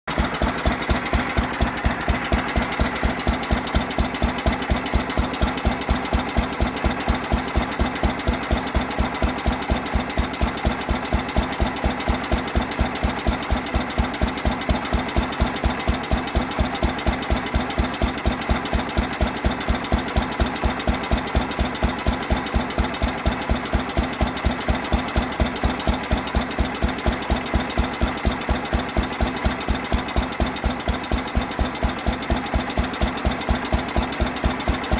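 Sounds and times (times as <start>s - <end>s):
stationary gas engine running: 0.0s - 34.9s.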